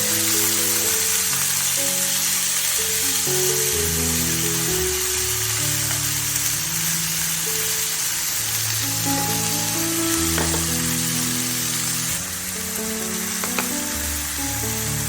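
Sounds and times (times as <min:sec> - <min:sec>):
background music of low notes: 0:00.0 - 0:15.0
food sizzling in hot oil: 0:00.0 - 0:15.0.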